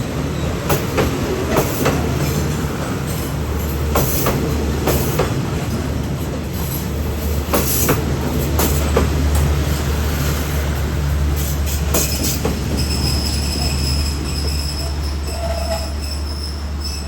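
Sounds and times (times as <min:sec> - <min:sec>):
train rumbling on track: 0:00.0 - 0:17.0
wheels clacking over rail joints: 0:00.4 - 0:17.0.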